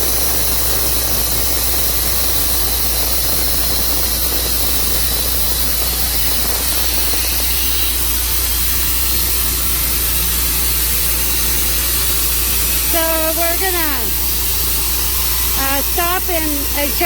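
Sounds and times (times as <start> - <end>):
sawmill engine hum and hiss: 0.0 - 17.0.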